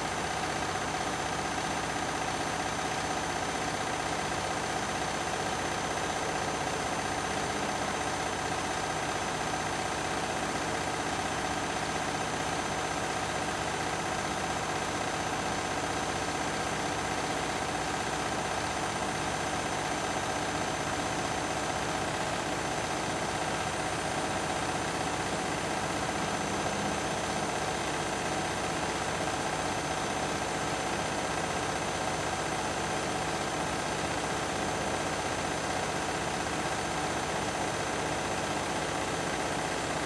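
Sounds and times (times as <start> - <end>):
washing machines spinning: 0.0 - 40.0.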